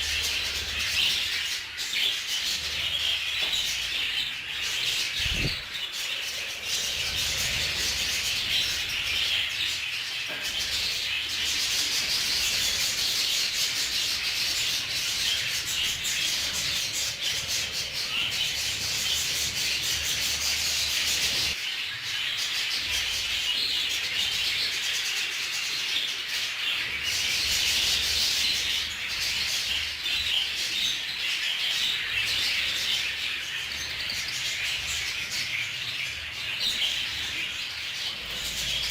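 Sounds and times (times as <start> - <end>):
flock of budgerigars chattering: 0.0 - 38.9.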